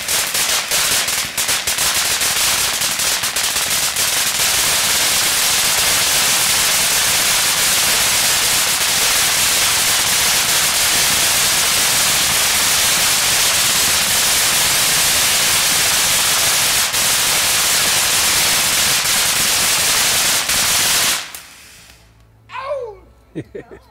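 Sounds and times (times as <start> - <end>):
firework fountain hissing: 0.0 - 22.2.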